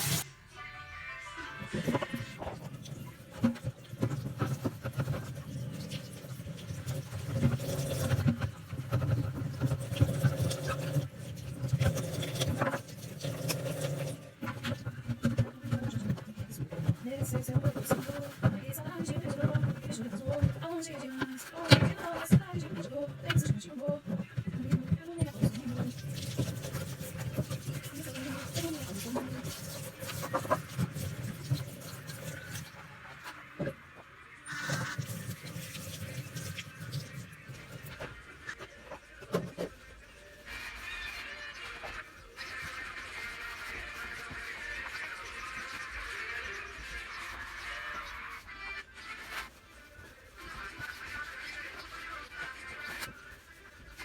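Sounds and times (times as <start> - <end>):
rubbing and scratching refrigerator: 0.0 - 0.3, 1.6 - 33.9, 34.5 - 54.0.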